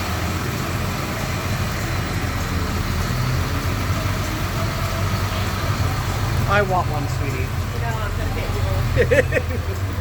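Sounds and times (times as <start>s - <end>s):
diesel engine low rumble: 0.0s - 10.0s.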